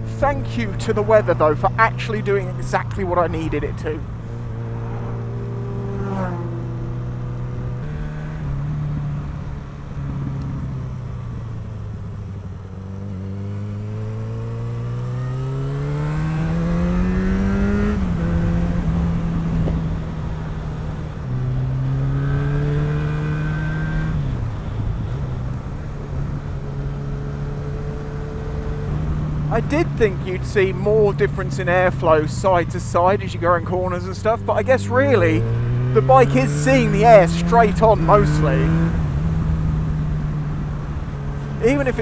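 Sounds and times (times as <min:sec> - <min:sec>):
motorcycle engine while riding: 0:00.0 - 0:42.0.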